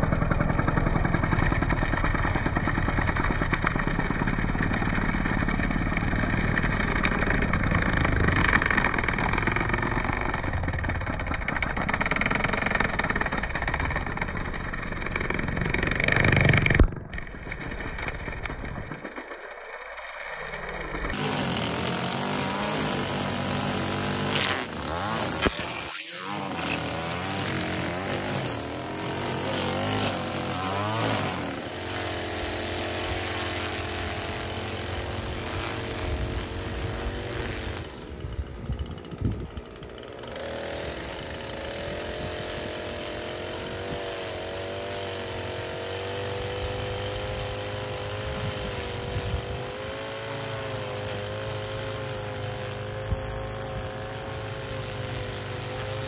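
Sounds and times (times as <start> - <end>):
string trimmer cutting grass: 0.0 - 56.0.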